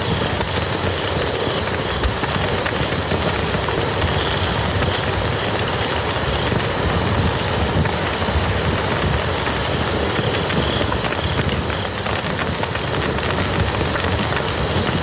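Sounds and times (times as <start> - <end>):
river flowing: 0.0 - 14.6
campfire crackling: 0.0 - 15.0.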